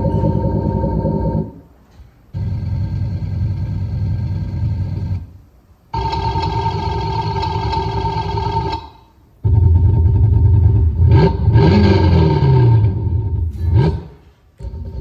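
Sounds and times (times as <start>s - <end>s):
synthetic engine drone: 0.0s - 1.7s, 2.3s - 5.3s, 5.9s - 15.0s.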